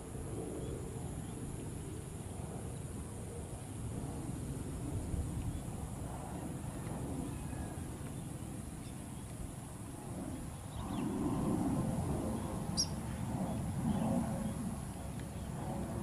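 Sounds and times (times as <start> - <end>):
distant jet engine rumble: 0.0 - 16.0.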